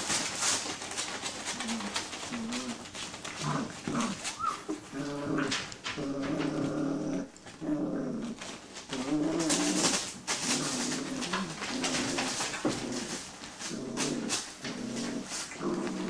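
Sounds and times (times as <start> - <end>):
hissy rustle: 0.0 - 16.0
puppies growling: 0.0 - 16.0.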